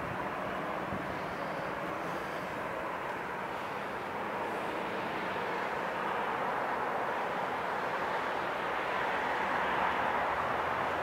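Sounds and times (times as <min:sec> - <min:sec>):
distant jet engines rushing: 0:00.0 - 0:11.0.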